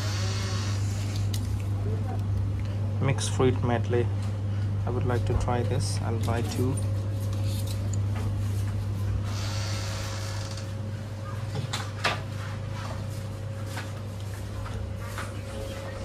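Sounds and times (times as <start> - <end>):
drinks cooler electrical hum: 0.0 - 16.0.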